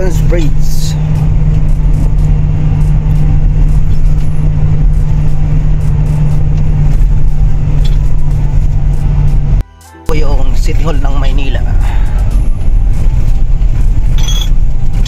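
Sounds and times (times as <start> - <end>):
road and traffic noise: 0.0 - 15.0
vehicle engine drone: 0.0 - 15.0.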